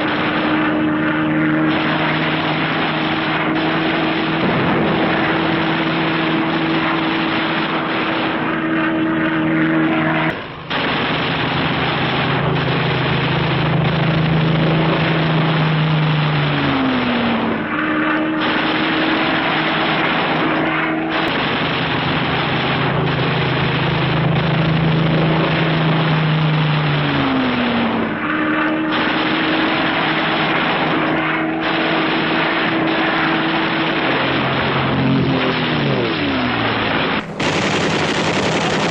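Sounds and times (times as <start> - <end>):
piston aircraft engine drone: 0.0 - 38.9.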